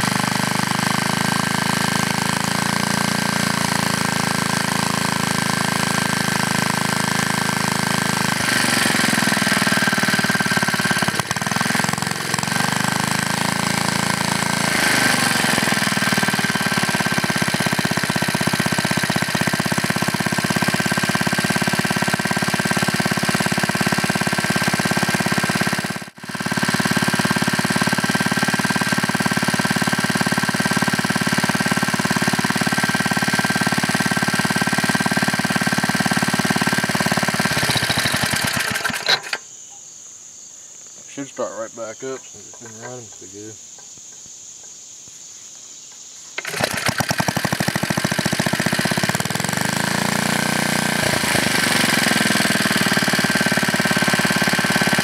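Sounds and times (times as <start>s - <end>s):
small engine running: 0.0s - 39.4s, 46.4s - 55.0s.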